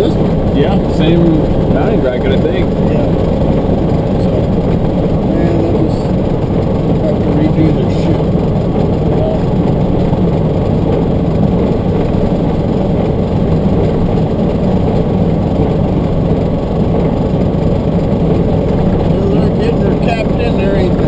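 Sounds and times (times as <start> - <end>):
vehicle engine and tyre rumble: 0.0 - 21.0.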